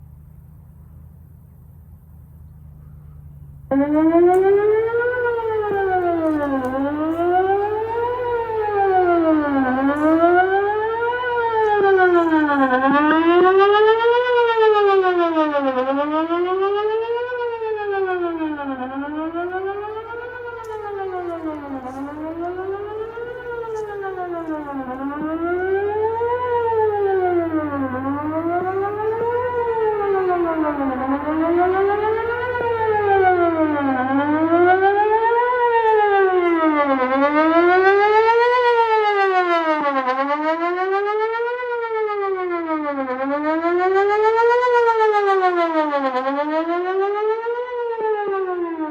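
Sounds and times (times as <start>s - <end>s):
electronic siren wailing: 3.7s - 45.5s.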